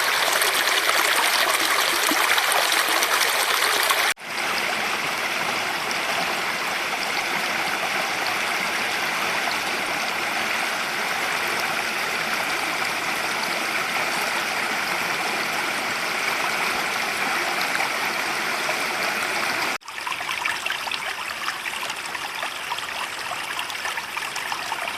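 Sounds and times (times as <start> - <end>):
creek water rushing: 0.0 - 24.9.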